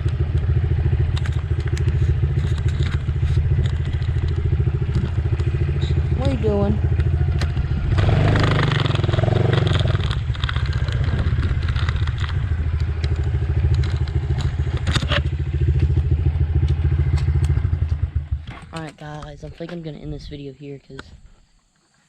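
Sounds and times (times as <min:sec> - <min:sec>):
sharp clicks: 0:00.0 - 0:20.0
dirt bike engine idling: 0:00.0 - 0:20.5.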